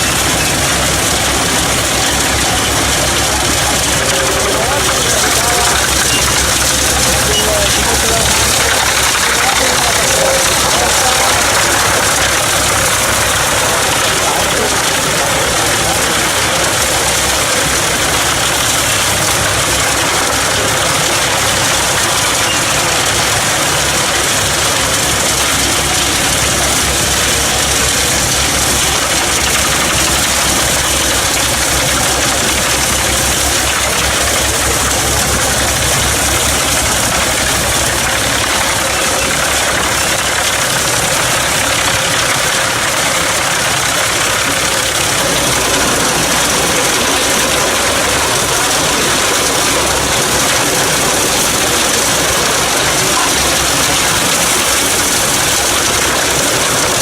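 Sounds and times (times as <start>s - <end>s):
tractor engine running: 0.0s - 57.0s
wood chipper drum running: 0.0s - 57.0s.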